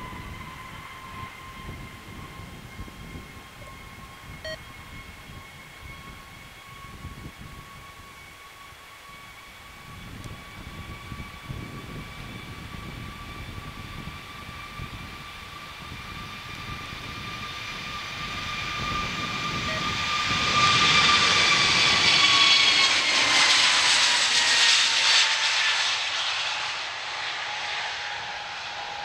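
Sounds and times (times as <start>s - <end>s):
jet engines at takeoff power: 0.0s - 29.0s.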